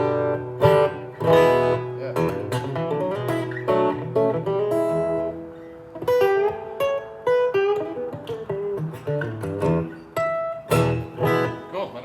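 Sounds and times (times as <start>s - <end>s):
acoustic guitar strumming and picking: 0.0s - 12.0s.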